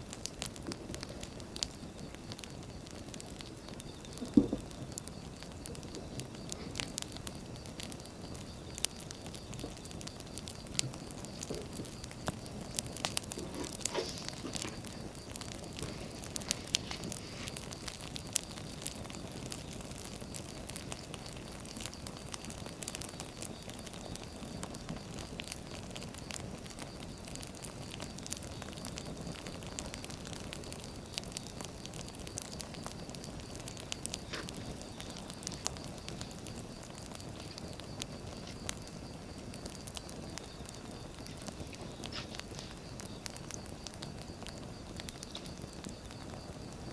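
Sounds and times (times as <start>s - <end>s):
fire popping and snapping: 0.0s - 46.9s
wood fire crackling: 0.0s - 46.9s.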